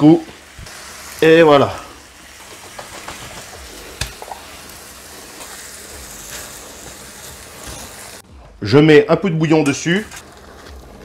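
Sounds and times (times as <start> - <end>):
food sizzling in a frying pan: 0.0 - 8.3, 9.7 - 11.0.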